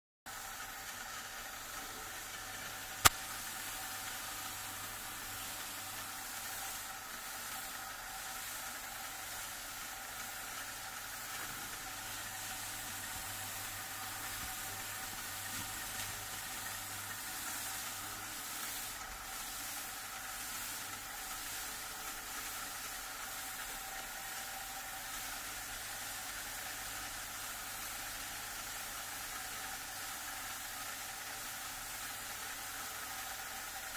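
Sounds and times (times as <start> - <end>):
tumbling drum hiss: 0.3 - 33.9.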